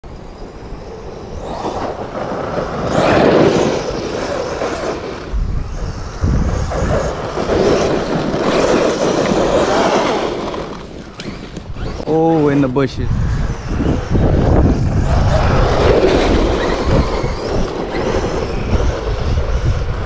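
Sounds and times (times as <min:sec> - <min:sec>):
electric motor whining: 0:00.2 - 0:20.0
tyres churning over sand: 0:00.8 - 0:14.1, 0:14.7 - 0:20.0.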